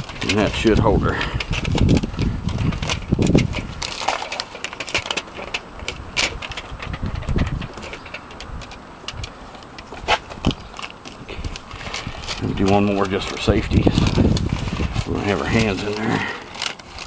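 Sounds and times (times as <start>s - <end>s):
metal parts rattling: 0.0s - 17.0s.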